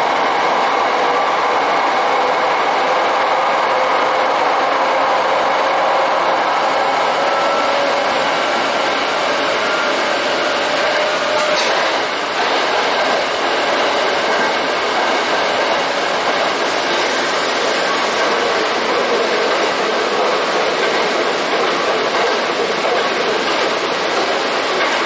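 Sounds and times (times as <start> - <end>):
train wheels on rails in tunnel: 0.0 - 25.0.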